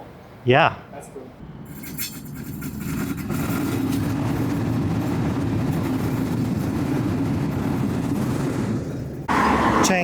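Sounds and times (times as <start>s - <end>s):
passing train rumbling: 1.4s - 10.0s.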